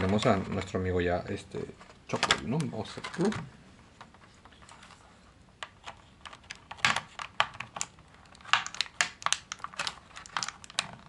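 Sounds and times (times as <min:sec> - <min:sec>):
plastic blister tray crackling: 0:01.5 - 0:05.0, 0:05.6 - 0:11.0.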